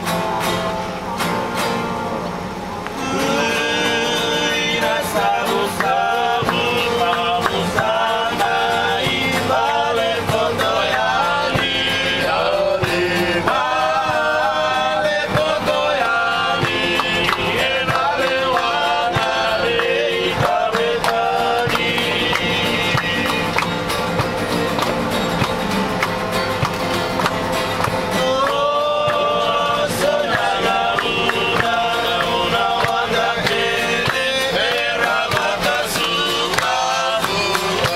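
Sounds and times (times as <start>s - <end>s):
strummed acoustic guitar: 0.0s - 37.9s
men singing: 3.0s - 24.5s, 27.5s - 37.9s.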